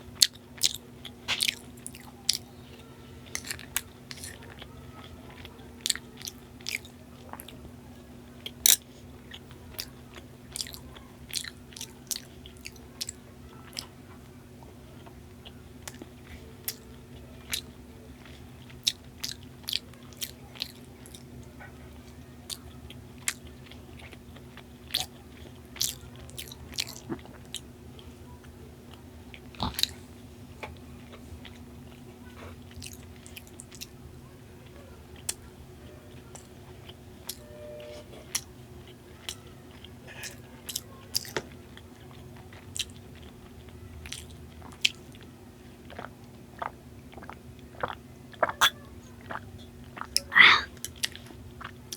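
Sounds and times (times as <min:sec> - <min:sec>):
person chewing sweets: 0:00.0 - 0:51.9
steady low hum: 0:00.0 - 0:51.9.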